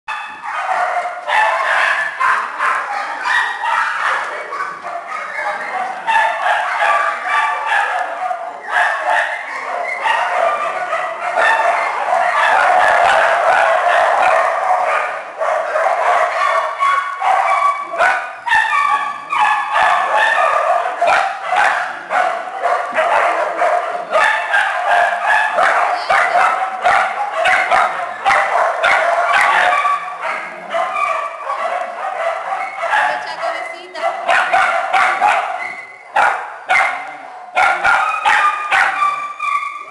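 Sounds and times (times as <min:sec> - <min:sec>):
small dogs barking: 0:00.1 - 0:39.9.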